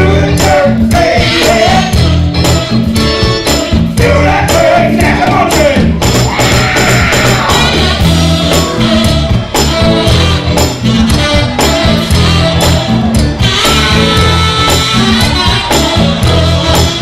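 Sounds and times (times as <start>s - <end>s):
music with steady beat and bass: 0.0s - 17.0s.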